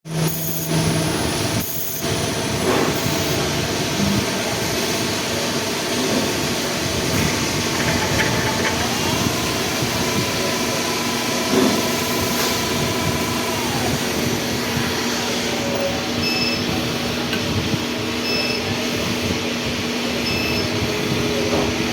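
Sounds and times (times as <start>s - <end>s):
machine whining tone: 0.1s - 19.3s
cnc machine running: 0.1s - 21.9s.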